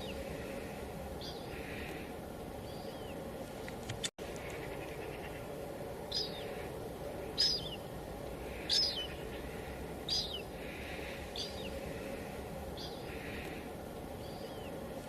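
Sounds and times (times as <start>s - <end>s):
bird calling: 0.0s - 15.0s
light rain hissing: 0.0s - 15.0s.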